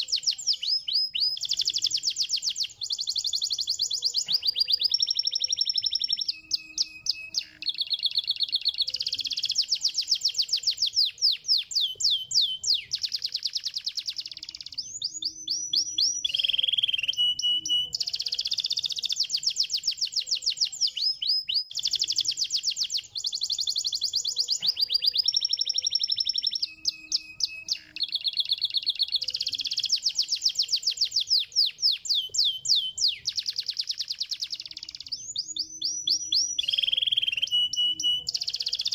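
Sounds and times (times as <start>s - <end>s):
canary singing high trills: 0.0s - 38.9s.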